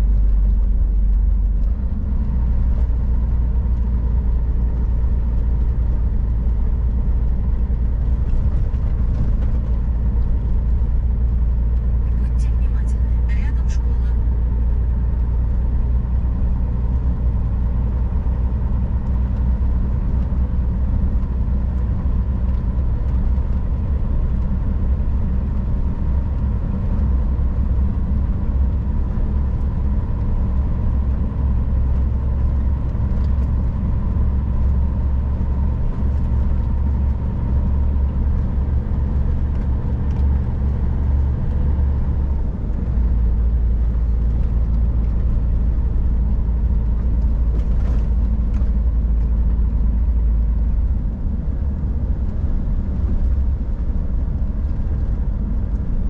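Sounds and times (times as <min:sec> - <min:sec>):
diesel truck engine drone: 0:00.0 - 0:56.0.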